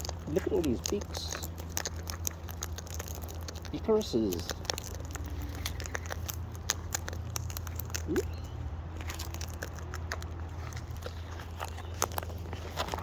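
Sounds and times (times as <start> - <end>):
cockatoos cracking seed: 0.0 - 13.0.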